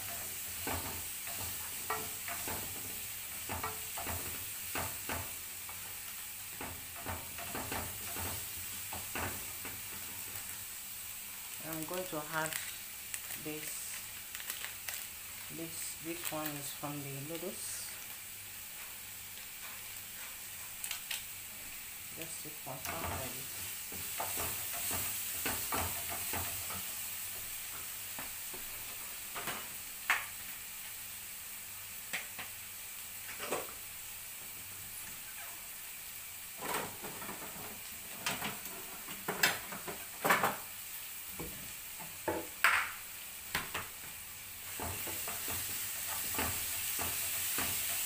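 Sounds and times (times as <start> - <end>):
peppers sizzling in oil: 0.0 - 48.0.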